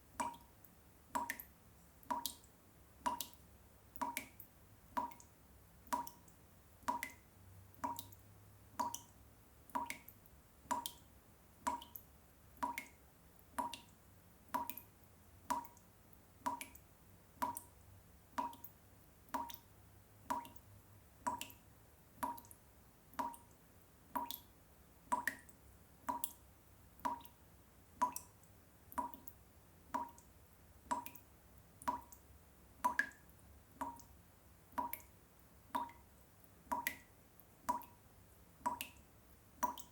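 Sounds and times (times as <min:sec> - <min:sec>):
water drops dripping: 0:00.1 - 0:24.5, 0:25.1 - 0:26.4, 0:27.0 - 0:27.4, 0:28.0 - 0:39.9.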